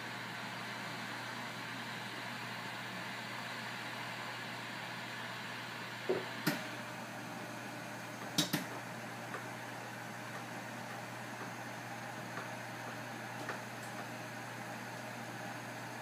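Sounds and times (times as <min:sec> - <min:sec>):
rework station hiss and hum: 0:00.0 - 0:16.0.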